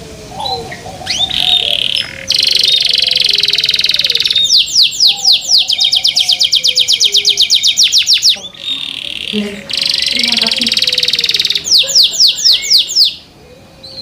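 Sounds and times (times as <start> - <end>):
canary singing trills: 0.3 - 14.0.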